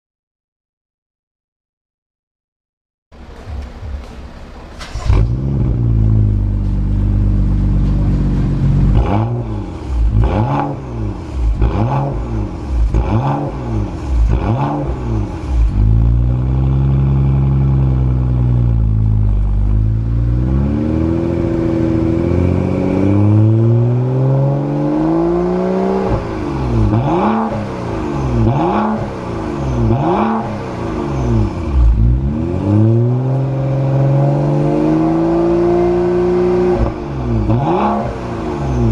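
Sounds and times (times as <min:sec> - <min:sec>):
car engine idling and revving: 0:03.1 - 0:38.9.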